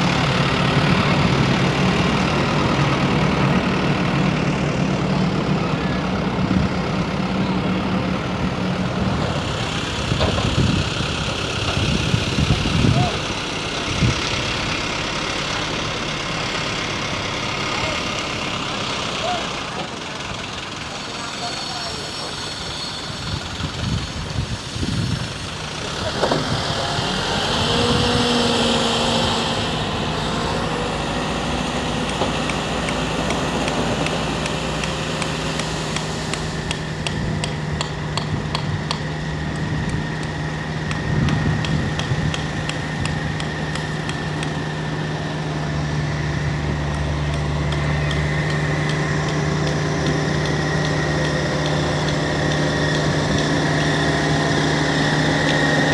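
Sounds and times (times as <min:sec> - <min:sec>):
dump truck engine running: 0:00.0 - 0:55.9
excavator diesel engine: 0:00.0 - 0:55.9.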